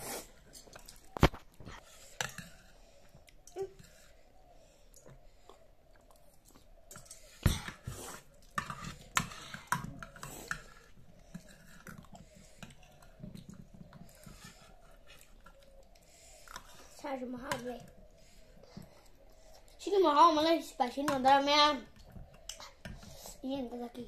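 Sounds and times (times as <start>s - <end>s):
children chewing noodles: 0.0s - 19.9s.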